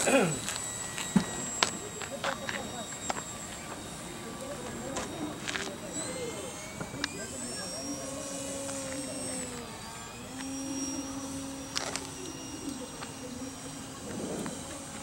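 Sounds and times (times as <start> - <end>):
model plane electric motor whine: 0.0 - 15.0.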